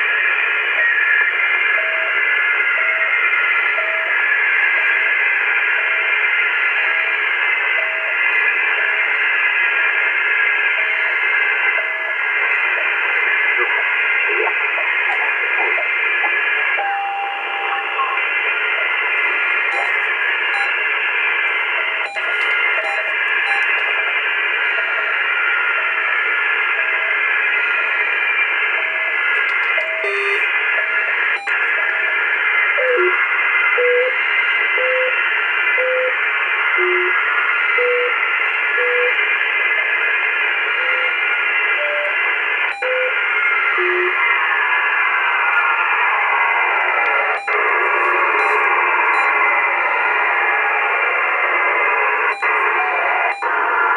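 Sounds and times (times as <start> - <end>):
shortwave band noise: 0.0 - 53.9.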